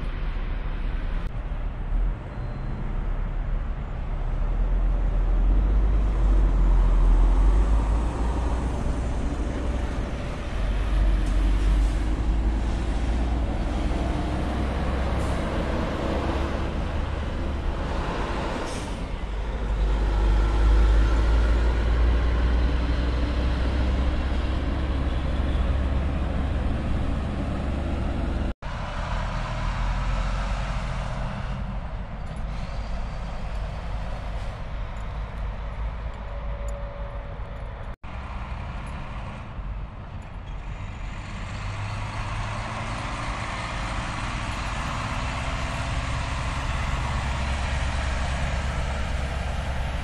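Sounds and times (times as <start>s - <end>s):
truck engines rumbling: 0.0s - 50.0s.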